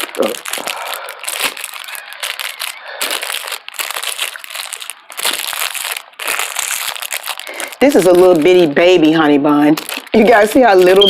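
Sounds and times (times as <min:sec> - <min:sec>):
crunching and crinkling of snacks: 0:00.0 - 0:11.0.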